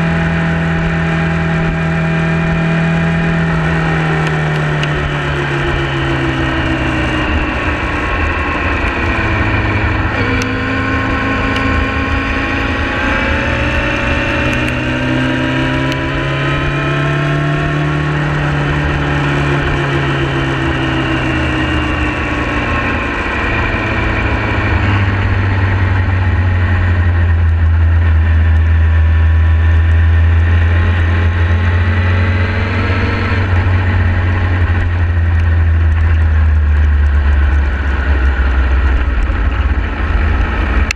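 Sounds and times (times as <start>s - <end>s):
motorcycle engine running: 0.0s - 40.9s
wind rumbling on microphone: 0.0s - 40.9s.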